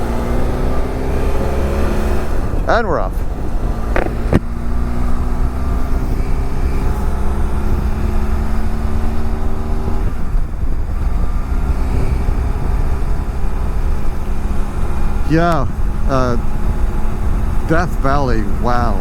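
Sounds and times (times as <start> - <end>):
motorcycle engine riding off: 0.0 - 19.0
wind rumble on microphone: 0.0 - 19.0.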